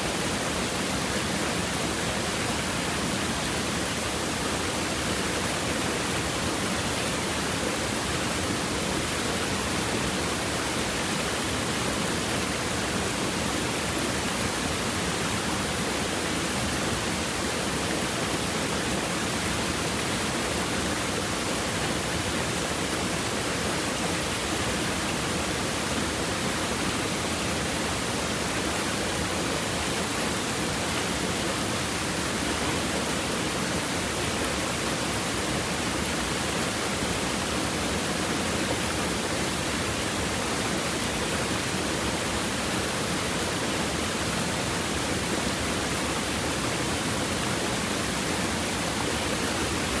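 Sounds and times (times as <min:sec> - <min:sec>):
stream babbling over rocks: 0:00.0 - 0:50.0.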